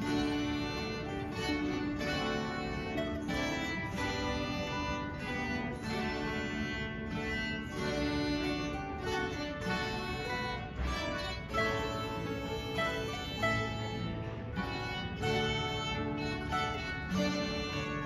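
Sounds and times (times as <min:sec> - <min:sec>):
folk string ensemble playing: 0:00.0 - 0:18.0.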